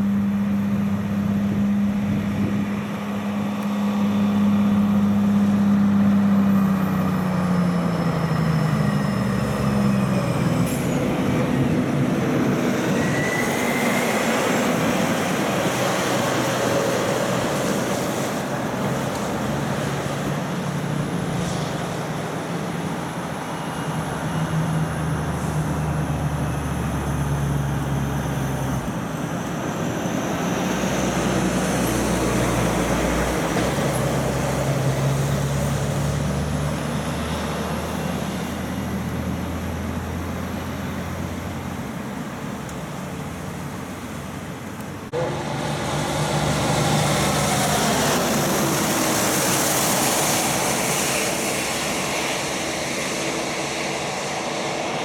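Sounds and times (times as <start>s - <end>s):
diesel trucks passing: 0.0s - 55.0s
tyre and road noise: 0.0s - 55.0s.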